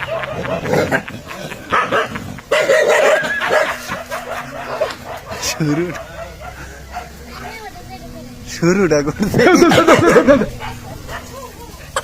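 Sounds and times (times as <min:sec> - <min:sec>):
dog barking aggressively: 0:00.0 - 0:07.6, 0:09.3 - 0:12.0.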